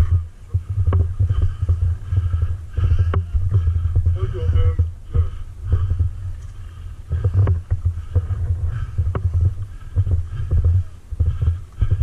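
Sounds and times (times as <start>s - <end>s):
microphone handling noise: 0.0s - 12.0s.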